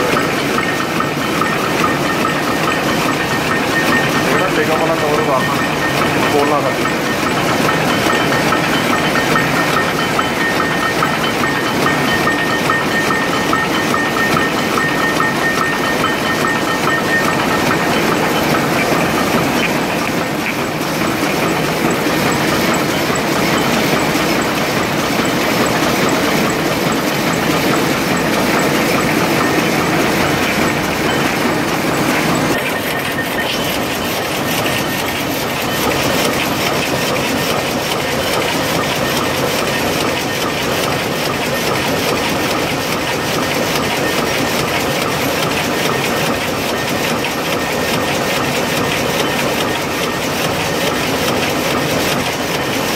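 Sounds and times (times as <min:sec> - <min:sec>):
weaving loom clattering: 0:00.0 - 0:52.9.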